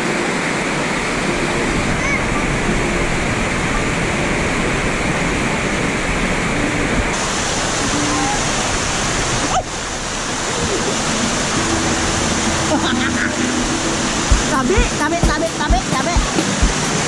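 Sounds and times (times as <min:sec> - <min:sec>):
stream rushing over rocks: 0:00.0 - 0:17.0
waterfall splashing into pool: 0:00.0 - 0:17.0.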